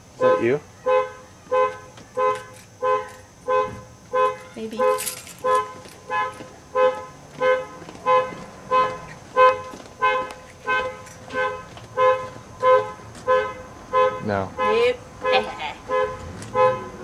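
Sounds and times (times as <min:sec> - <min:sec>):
car alarm horn honking: 0:00.2 - 0:17.0.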